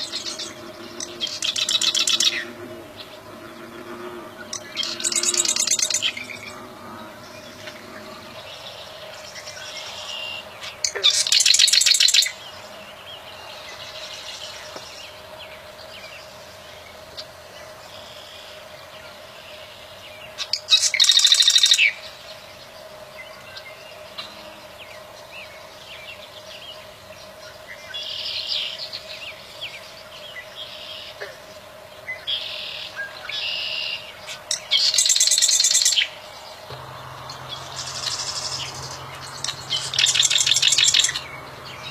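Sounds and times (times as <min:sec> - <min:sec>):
soft bird calls: 0:00.0 - 0:41.9.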